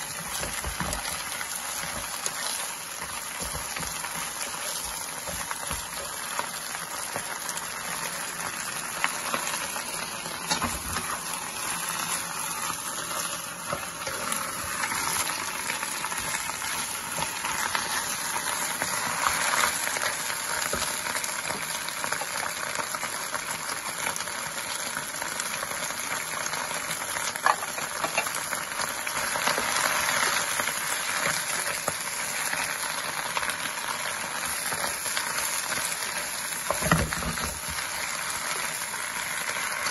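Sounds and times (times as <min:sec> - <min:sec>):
leaves sizzling in a wok: 0:00.0 - 0:39.9.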